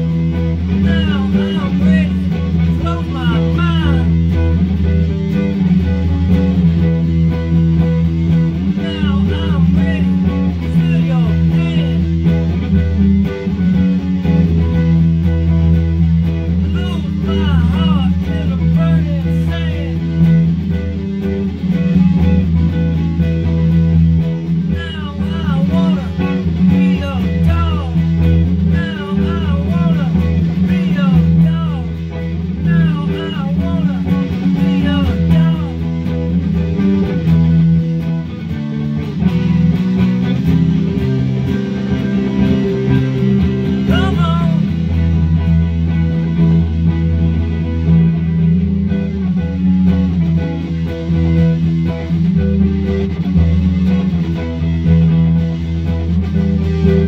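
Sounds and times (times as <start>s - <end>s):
electric guitar lead with bends: 0.0s - 57.0s
looped electric guitar riff: 0.0s - 57.0s.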